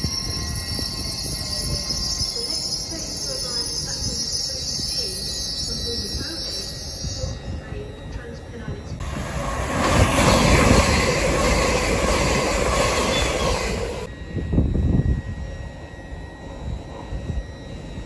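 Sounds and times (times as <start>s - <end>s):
low rumble of slow train: 0.0s - 18.0s
train passing at speed: 0.0s - 18.0s.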